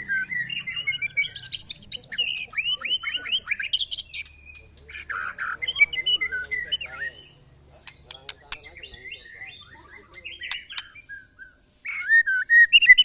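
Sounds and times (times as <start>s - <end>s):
songbird singing whistles: 0.0s - 13.0s.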